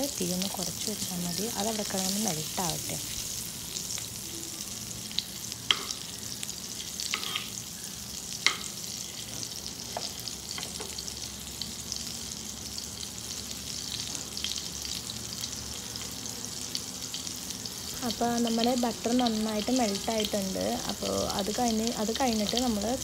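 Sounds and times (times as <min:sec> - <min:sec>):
butter sizzling in frying pan: 0:00.0 - 0:23.0.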